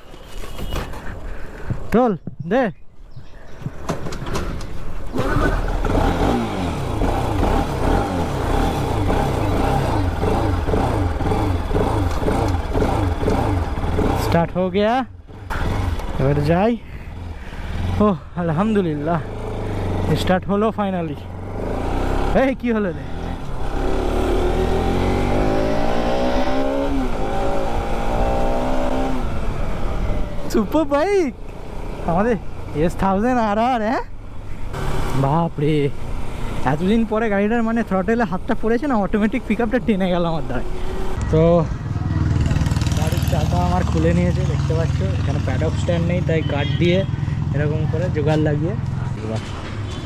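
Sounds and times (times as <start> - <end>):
motorcycle engine revving: 5.0 - 49.2.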